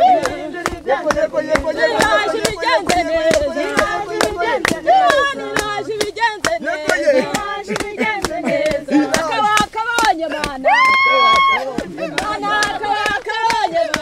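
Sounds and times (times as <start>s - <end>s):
group singing worship song: 0.0s - 14.0s
hand clapping steady beat: 0.0s - 14.0s.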